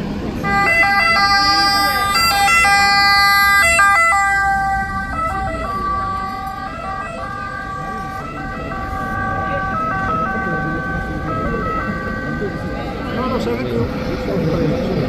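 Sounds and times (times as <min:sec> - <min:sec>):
two-tone ambulance siren: 0:00.1 - 0:15.0.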